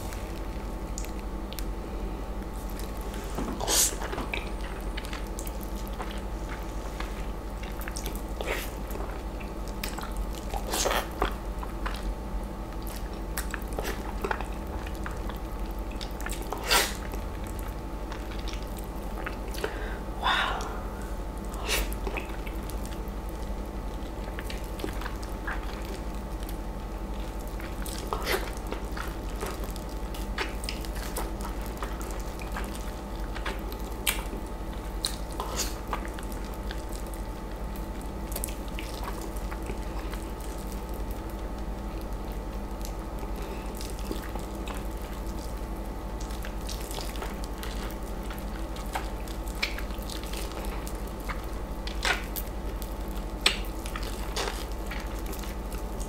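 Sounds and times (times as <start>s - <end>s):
steady background hum: 0.0s - 56.0s
wet mouth eating sounds: 0.1s - 1.8s, 2.4s - 56.0s.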